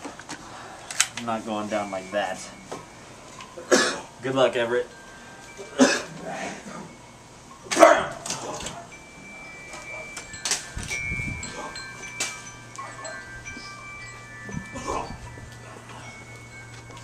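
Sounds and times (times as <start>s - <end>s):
wind chimes ringing: 0.5s - 17.0s.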